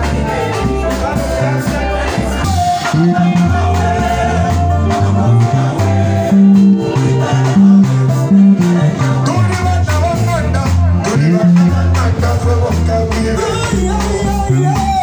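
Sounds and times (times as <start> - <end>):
electric guitar: 0.0 - 15.0
live band playing: 0.0 - 15.0
percussion: 0.0 - 15.0
stepping bass line: 0.0 - 15.0
voices singing: 0.0 - 15.0.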